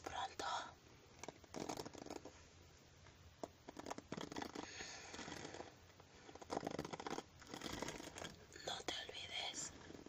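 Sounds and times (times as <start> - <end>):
soft scratching and rustling: 1.1 - 10.0.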